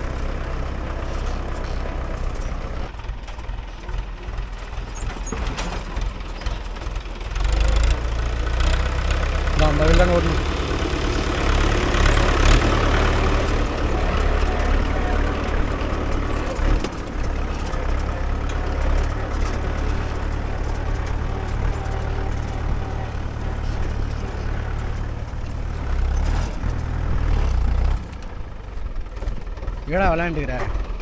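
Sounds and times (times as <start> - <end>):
tractor diesel engine rumbling: 0.0 - 31.0.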